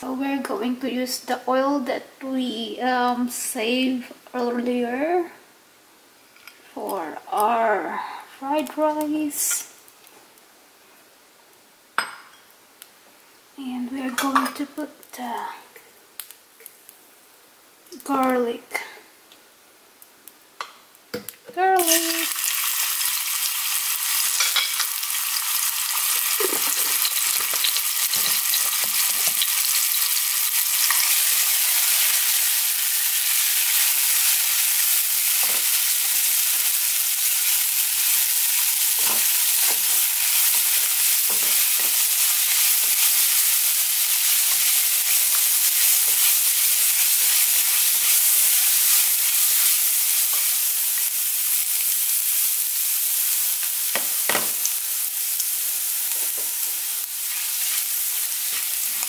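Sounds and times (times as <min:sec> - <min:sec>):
garlic sizzling in oil: 0:05.9 - 0:59.0.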